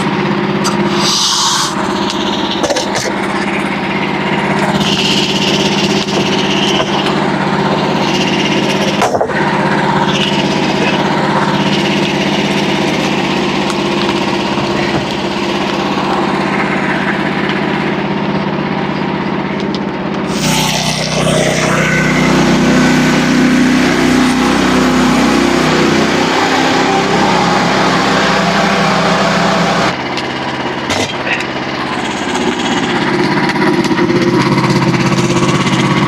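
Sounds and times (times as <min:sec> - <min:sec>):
small gas engine running: 0:00.0 - 0:36.0.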